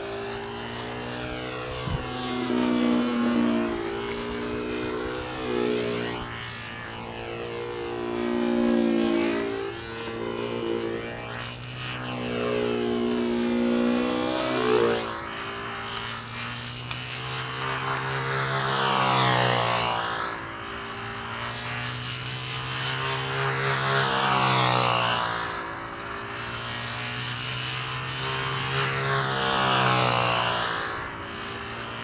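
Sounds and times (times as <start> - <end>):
model aircraft engine running: 0.0 - 32.0.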